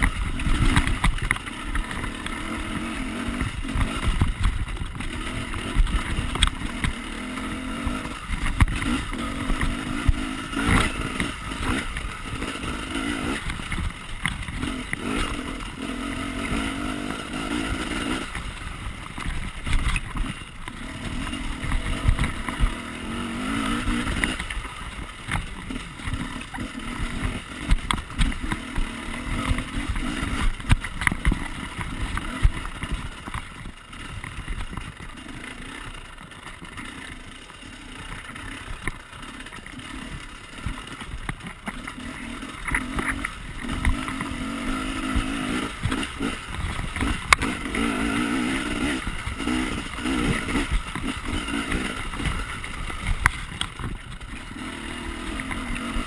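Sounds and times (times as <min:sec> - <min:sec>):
knocks and rattles of bike: 0:00.0 - 0:56.0
motorcycle engine revving: 0:00.0 - 0:56.0.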